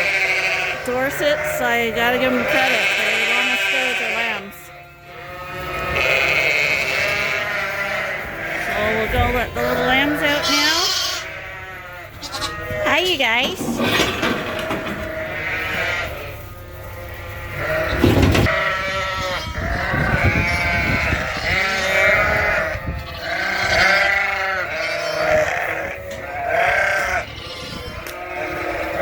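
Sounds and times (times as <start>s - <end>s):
sheep and lambs bleating: 0.0s - 29.0s.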